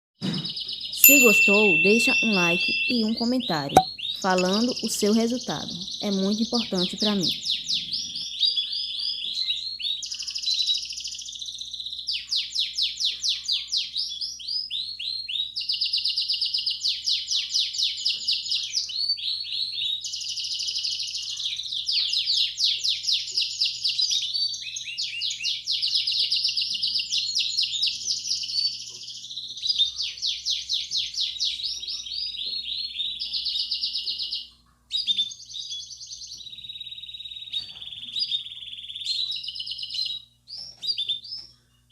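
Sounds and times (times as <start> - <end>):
canary singing trills: 0.4 - 41.9.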